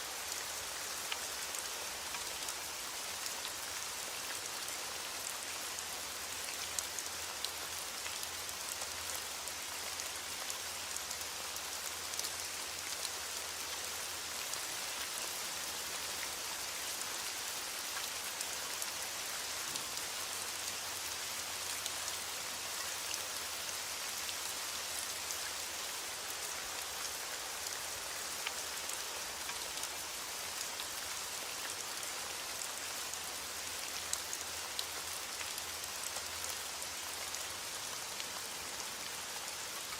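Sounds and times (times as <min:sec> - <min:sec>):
rain falling: 0:00.0 - 0:39.9
raindrops ticking on a surface: 0:00.1 - 0:39.9.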